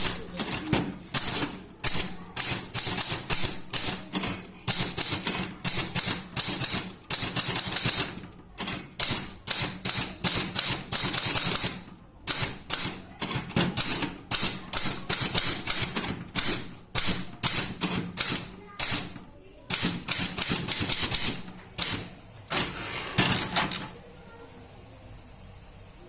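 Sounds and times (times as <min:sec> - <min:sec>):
typewriter keys clacking: 0:00.0 - 0:23.9.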